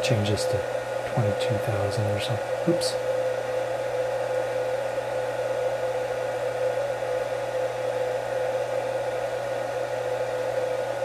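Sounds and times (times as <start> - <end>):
fan whooshing: 0.0 - 11.0.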